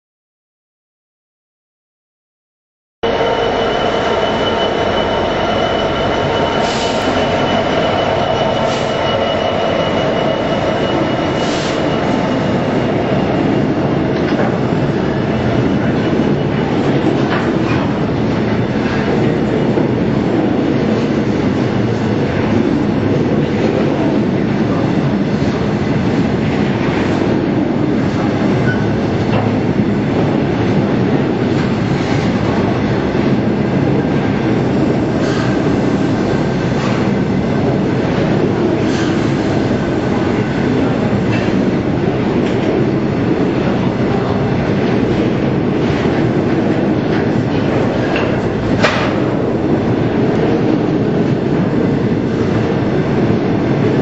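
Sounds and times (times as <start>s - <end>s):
diesel locomotive engine: 3.0s - 54.0s.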